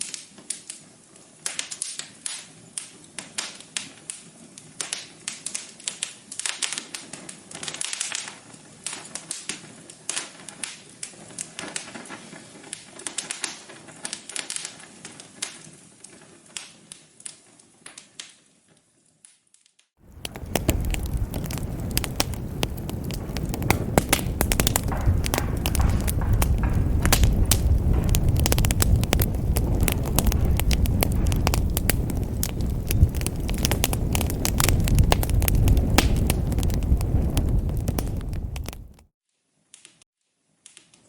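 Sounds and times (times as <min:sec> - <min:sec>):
wood fire crackling: 0:00.0 - 0:18.6, 0:20.0 - 0:39.1.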